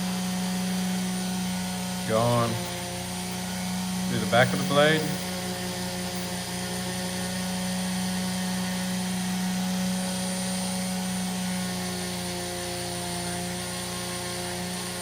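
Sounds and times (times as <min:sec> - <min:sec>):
rotary tool motor whine: 0:00.0 - 0:15.0.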